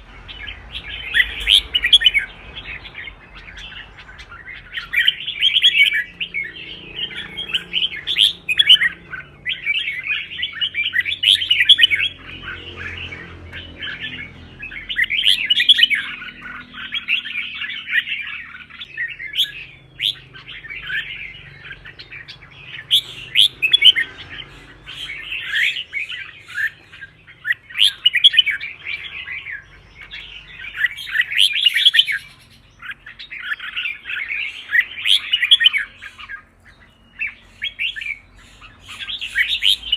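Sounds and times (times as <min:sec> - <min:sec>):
bird song warbled phrases: 0:00.0 - 0:39.9.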